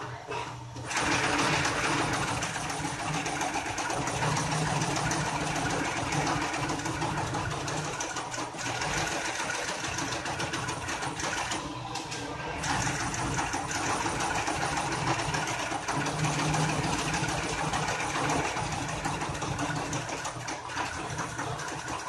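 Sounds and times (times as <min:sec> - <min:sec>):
fast mechanical clatter: 0:00.8 - 0:11.7, 0:12.6 - 0:22.0.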